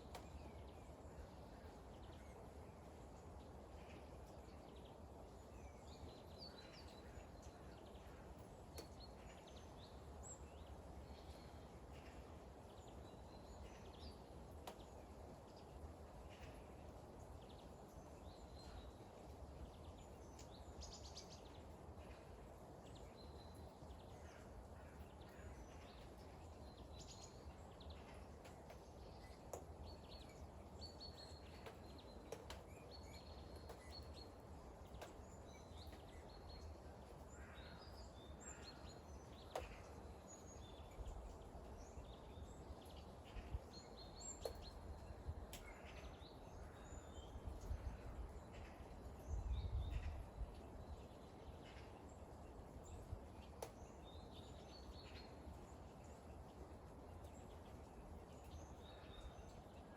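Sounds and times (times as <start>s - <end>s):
faint steady rain: 0.0s - 59.9s
small birds chirping: 0.0s - 59.9s.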